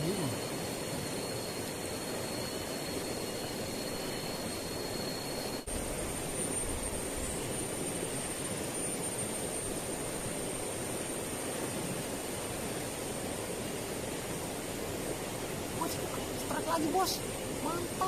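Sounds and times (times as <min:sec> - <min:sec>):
rushing outdoor noise: 0:00.0 - 0:18.0
thin high whine: 0:00.0 - 0:18.0.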